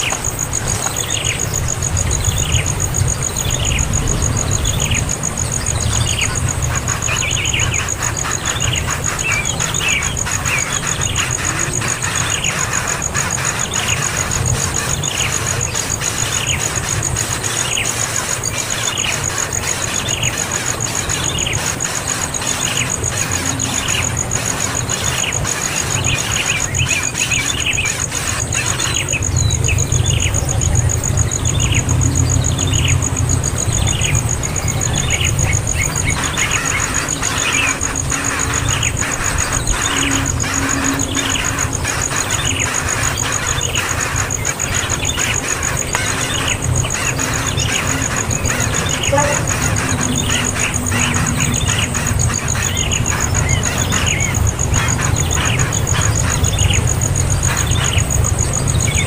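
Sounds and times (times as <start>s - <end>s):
high-pitched whine: 0.0s - 59.0s
chick begging calls: 5.8s - 59.0s.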